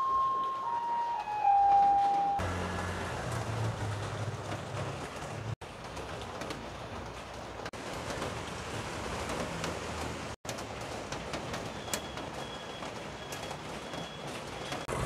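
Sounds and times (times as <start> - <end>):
rain falling: 2.4 - 15.0.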